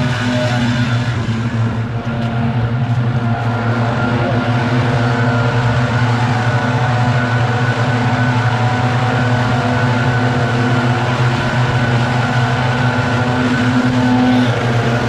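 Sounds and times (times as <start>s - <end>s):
leaf blowers droning: 0.0s - 15.0s.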